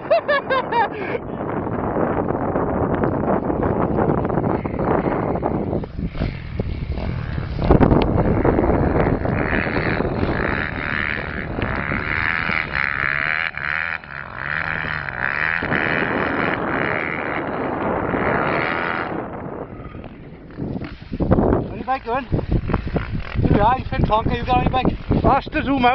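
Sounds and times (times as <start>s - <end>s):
motocross bike engine revving: 0.1s - 25.9s.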